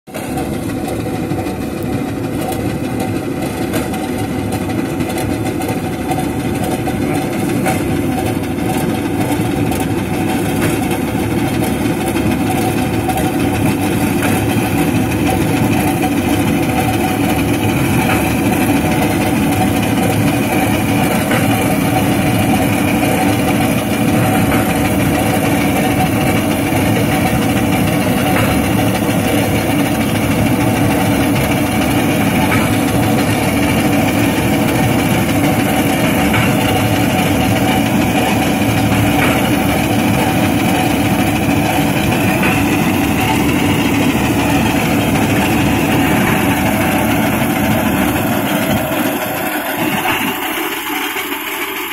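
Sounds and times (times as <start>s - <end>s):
reaper engine running under load: 0.1s - 51.9s.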